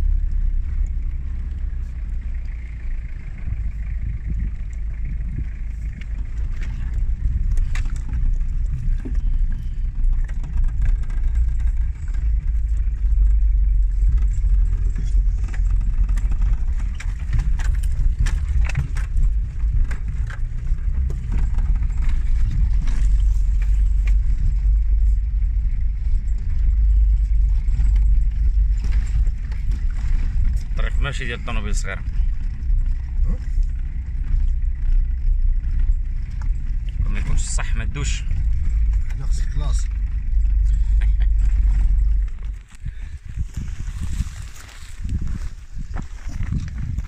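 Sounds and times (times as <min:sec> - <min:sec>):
car driving rumble: 0:00.0 - 0:47.0
rattles and knocks: 0:00.1 - 0:47.0.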